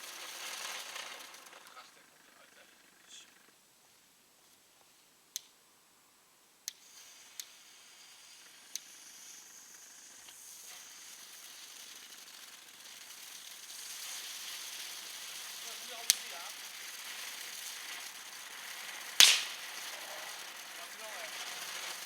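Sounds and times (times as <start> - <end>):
fireworks popping: 0.0 - 3.2, 6.7 - 22.0
fireworks fizzing hiss: 0.0 - 5.1, 6.7 - 22.0.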